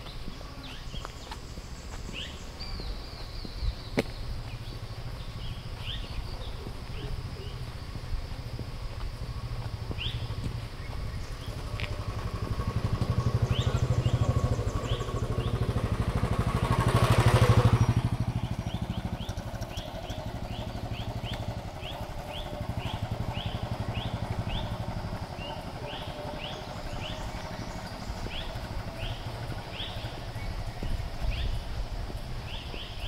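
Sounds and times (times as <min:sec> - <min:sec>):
motorcycle engine passing: 0:00.0 - 0:33.0.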